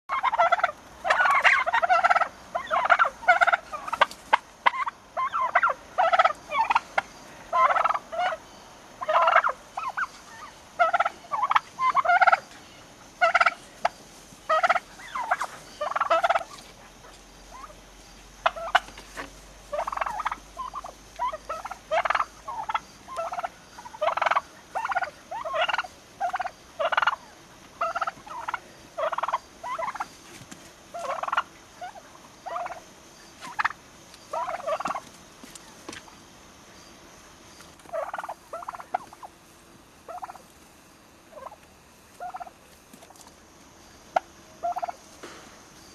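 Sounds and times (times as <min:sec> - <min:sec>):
turkeys gobbling: 0:00.1 - 0:12.5, 0:13.1 - 0:36.1, 0:37.6 - 0:40.6, 0:41.3 - 0:43.3, 0:44.1 - 0:45.1.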